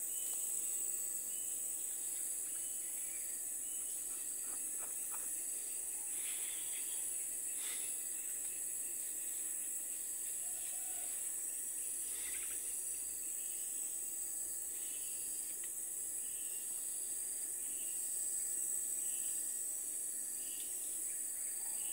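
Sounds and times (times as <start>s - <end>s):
insect chorus drone: 0.0s - 21.9s.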